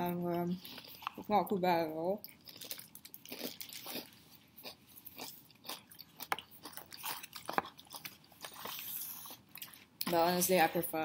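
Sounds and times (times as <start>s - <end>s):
crunchy fries chewing: 0.0s - 1.4s, 2.2s - 10.2s.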